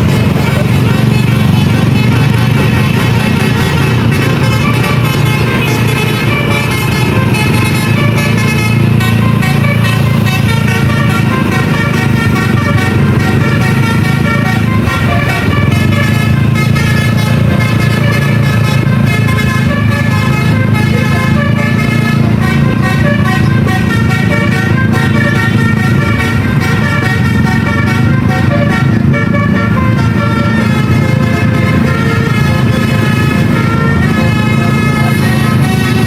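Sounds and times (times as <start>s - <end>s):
bus engine running: 0.0s - 36.0s
multi-tone bus horn melody: 0.0s - 36.0s.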